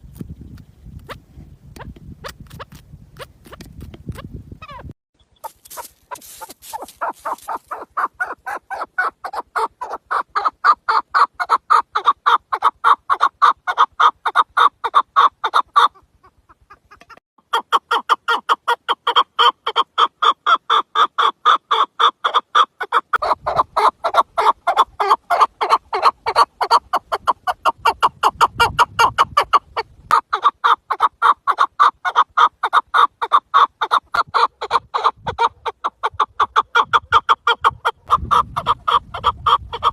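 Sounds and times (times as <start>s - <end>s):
partridge clucking call: 4.6s - 39.9s.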